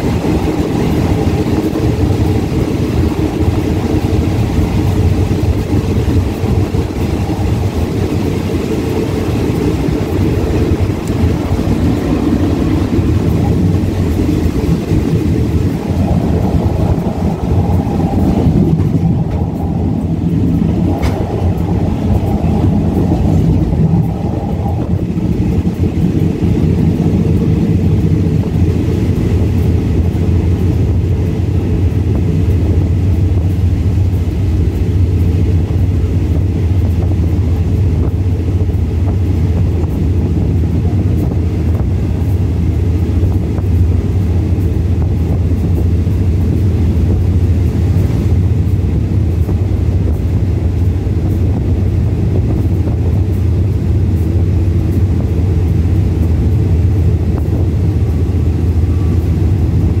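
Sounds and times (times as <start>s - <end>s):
rushing air: 0.0s - 60.0s
train wheels rumbling on rails: 0.0s - 60.0s.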